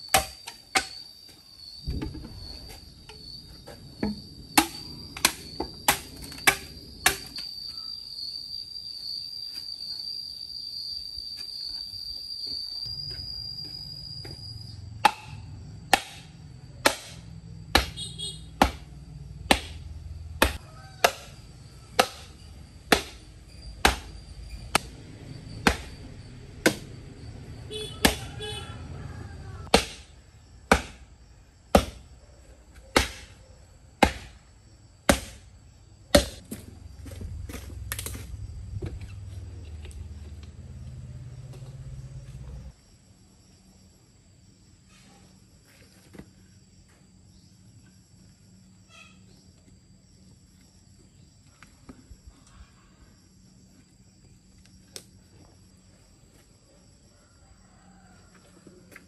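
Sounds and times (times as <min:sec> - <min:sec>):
cricket chirping: 0:00.0 - 0:59.0.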